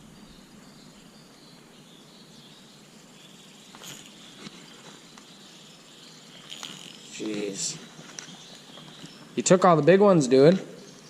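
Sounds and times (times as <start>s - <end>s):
faint high-pitched insect drone: 0.0s - 11.0s.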